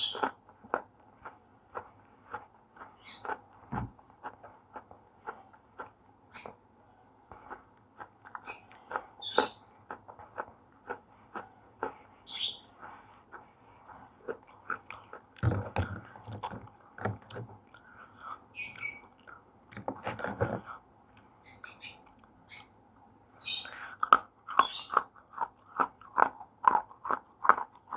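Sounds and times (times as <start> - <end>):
slate pencils being chewed: 0.0 - 6.6, 7.3 - 22.4, 23.6 - 27.9.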